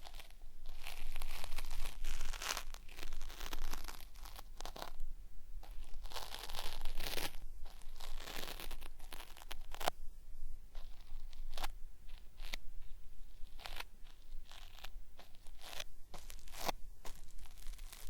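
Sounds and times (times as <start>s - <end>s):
cotton swab scraping microphone: 0.0s - 18.0s.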